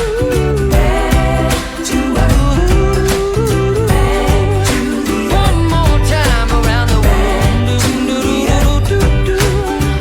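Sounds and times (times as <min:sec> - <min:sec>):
pop music with guitar: 0:00.0 - 0:10.0.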